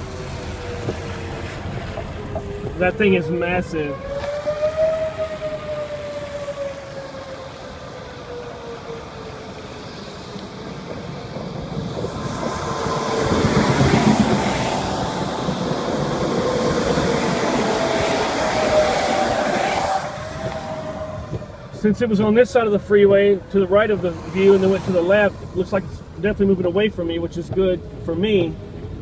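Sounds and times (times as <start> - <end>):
wailing siren tone: 0.0 - 26.1
tyres on wet road: 0.0 - 29.0.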